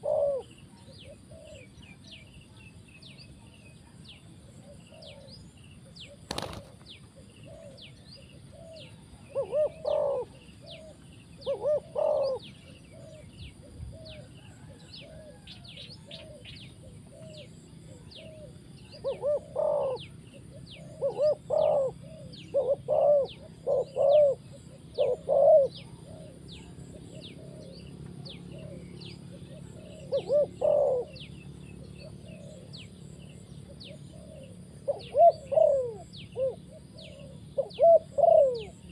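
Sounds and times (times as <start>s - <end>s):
dove cooing: 0.0s - 2.0s, 3.8s - 38.9s.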